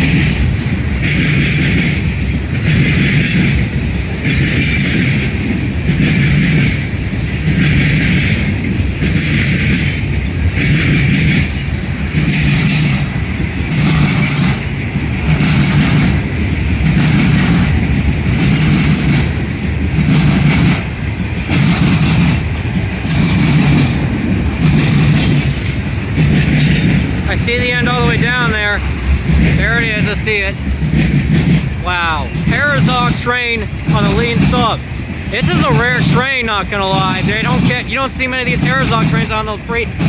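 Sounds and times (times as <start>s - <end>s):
train cars rolling on rails: 0.0s - 40.0s.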